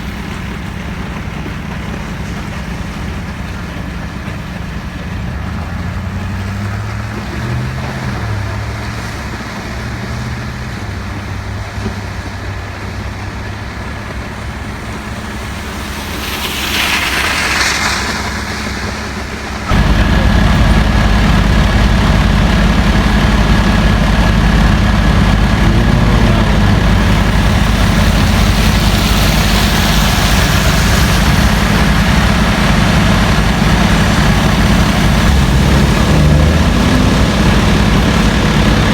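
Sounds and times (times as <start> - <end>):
truck engine idling: 0.0 - 38.9
tyres hissing on wet road: 0.0 - 38.9.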